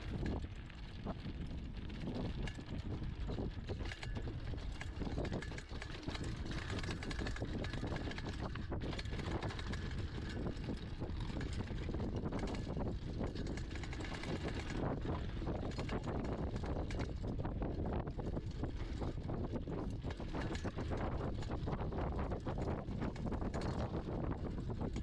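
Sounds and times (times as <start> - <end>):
bike chain and parts rattling: 0.0 - 25.0
bike tyres rolling on gravel: 0.0 - 25.0
wind buffeting microphone: 0.0 - 25.0.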